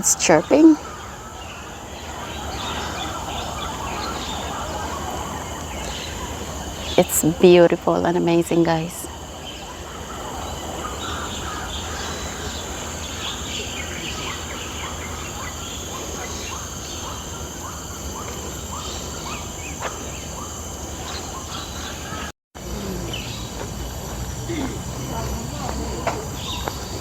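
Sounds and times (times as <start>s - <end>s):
birds chirping and calling: 0.0s - 27.0s
steady high hum: 0.0s - 27.0s.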